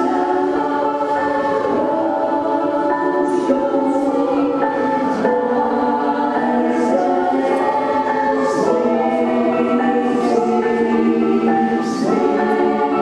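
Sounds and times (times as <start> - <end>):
women's choir singing: 0.0 - 13.0.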